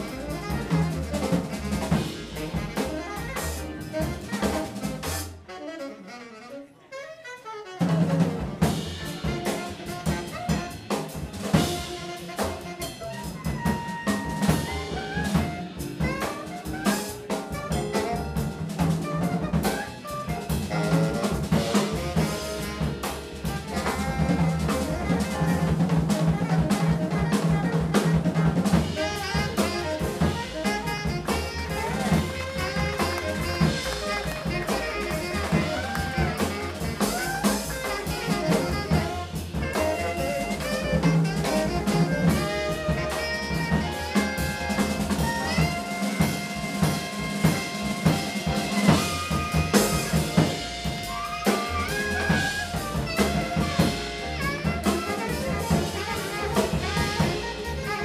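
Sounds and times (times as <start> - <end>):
upright bass: 0.0 - 5.4, 8.0 - 58.0
drum kit: 0.0 - 6.5, 7.7 - 58.0
electric piano: 0.0 - 6.6, 7.8 - 58.0
saxophone: 0.0 - 58.0.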